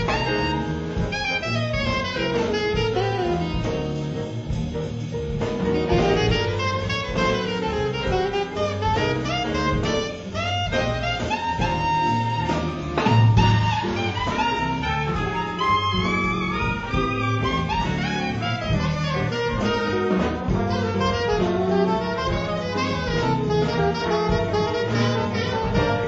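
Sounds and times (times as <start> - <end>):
alto saxophone jazz solo: 0.0 - 26.0
drum kit: 0.0 - 26.0
upright bass: 0.0 - 26.0.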